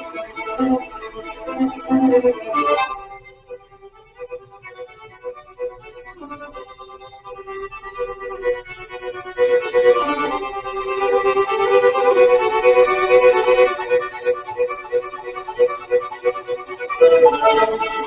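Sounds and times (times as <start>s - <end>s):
violin melody: 0.0s - 18.0s.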